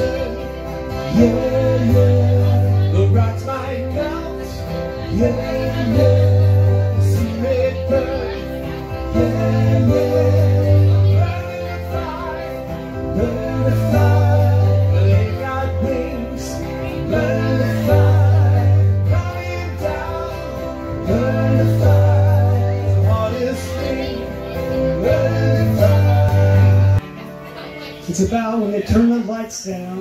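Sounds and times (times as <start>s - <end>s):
bass line: 0.0s - 27.2s
acoustic guitar: 0.0s - 30.0s
keyboard: 0.0s - 30.0s
live band music: 0.0s - 30.0s.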